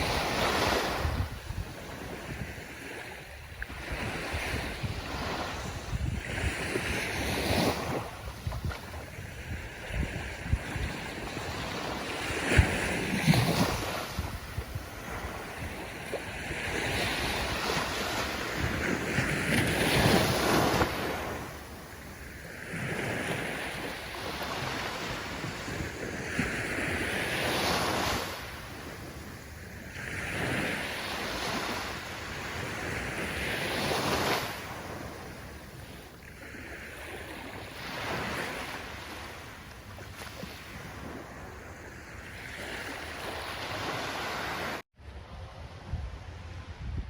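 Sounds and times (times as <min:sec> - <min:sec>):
ocean waves breaking: 0:00.0 - 0:45.3.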